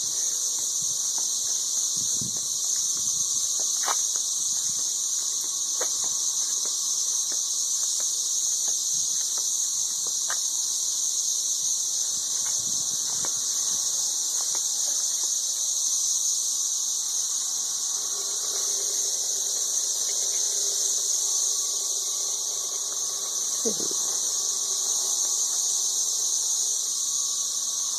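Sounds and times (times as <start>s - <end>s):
cicadas droning: 0.0s - 27.9s.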